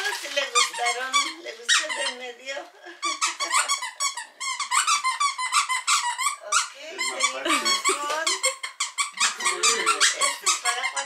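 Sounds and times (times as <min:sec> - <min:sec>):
squeaky dog toy squeaking: 0:00.0 - 0:02.3, 0:03.0 - 0:11.0.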